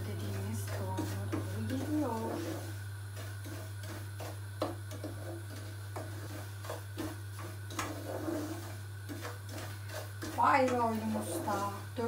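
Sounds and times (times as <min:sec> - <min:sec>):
steady low hum: 0:00.0 - 0:12.0
wooden spoon scraping a pot: 0:00.0 - 0:12.0.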